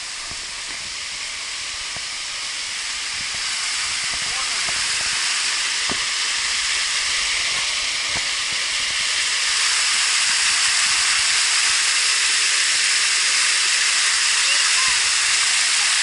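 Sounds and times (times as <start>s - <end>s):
waterfall hiss: 0.0s - 16.0s.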